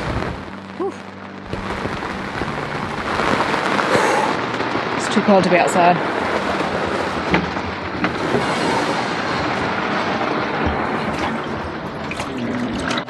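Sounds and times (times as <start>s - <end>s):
torrential rain on boat deck: 0.0s - 13.0s.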